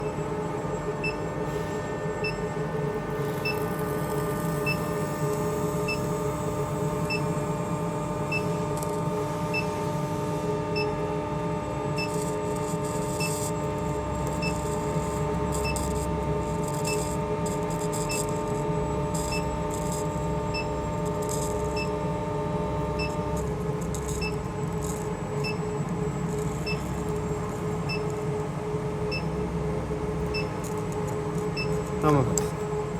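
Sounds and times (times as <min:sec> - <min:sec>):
induction heater electrical hum: 0:00.0 - 0:32.9.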